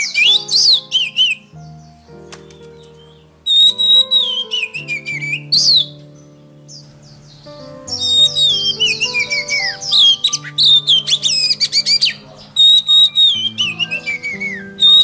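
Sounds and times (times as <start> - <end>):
backing music with low notes: 0.0 - 15.0
songbird singing whistled trills: 0.0 - 15.0.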